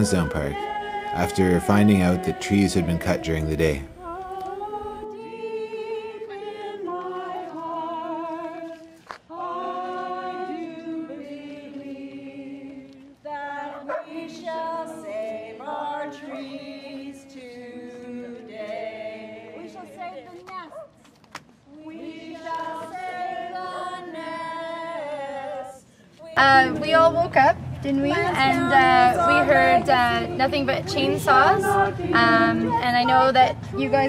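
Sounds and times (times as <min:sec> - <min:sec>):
crowd singing unaccompanied: 0:00.0 - 0:20.7, 0:21.6 - 0:34.0.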